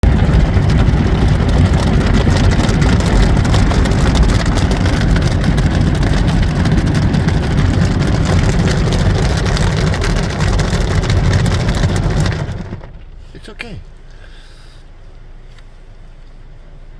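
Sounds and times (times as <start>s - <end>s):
car wash equipment running: 0.0s - 16.9s.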